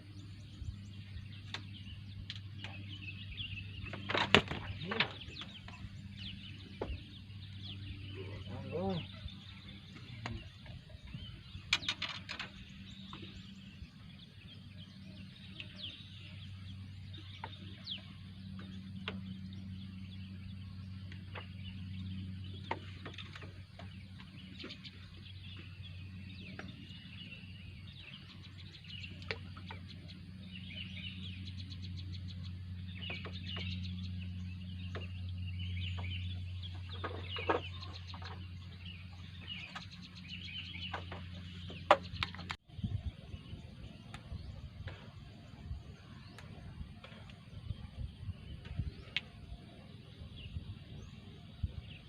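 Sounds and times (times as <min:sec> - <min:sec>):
birds chirping: 0:00.0 - 0:52.0
steady low hum: 0:00.0 - 0:52.0.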